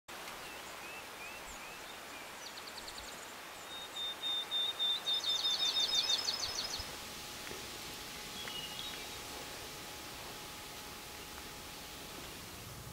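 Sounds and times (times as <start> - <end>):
birds chirping: 0.1 - 12.7
background hiss: 0.1 - 12.9
bird singing steady trill: 0.4 - 12.8.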